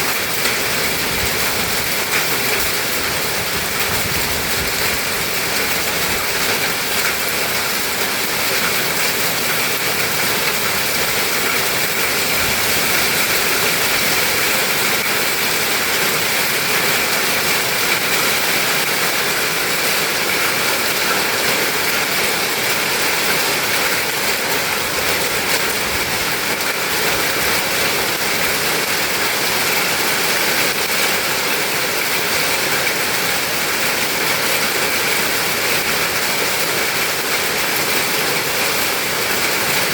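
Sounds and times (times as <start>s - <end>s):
heavy rain and hail: 0.0s - 39.9s.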